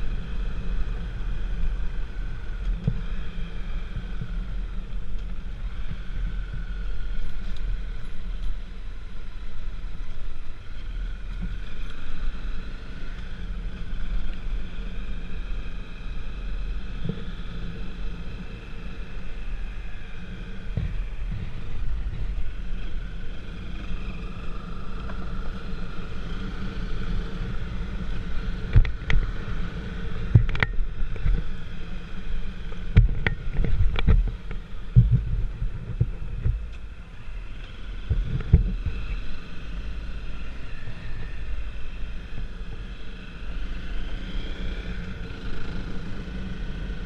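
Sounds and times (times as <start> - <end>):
rising and falling whine: 0.0 - 47.0
vehicle running drone: 0.0 - 47.0.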